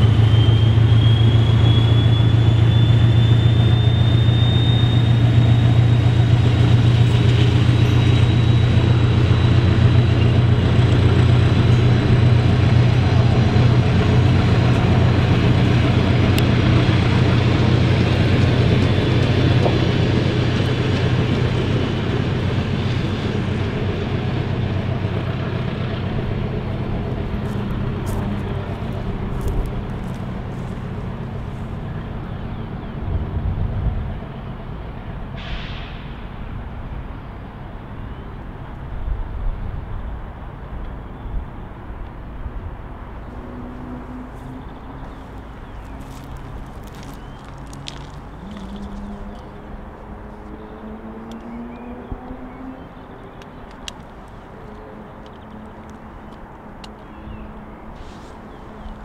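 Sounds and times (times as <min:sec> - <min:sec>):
coaches rolling on rails: 0:00.0 - 0:59.0
diesel locomotive droning: 0:00.0 - 0:59.0.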